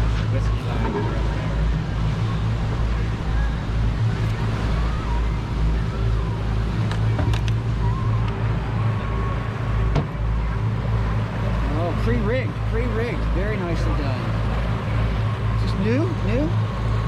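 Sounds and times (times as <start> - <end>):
boat engine drone: 0.0 - 17.0
wind: 0.0 - 17.0.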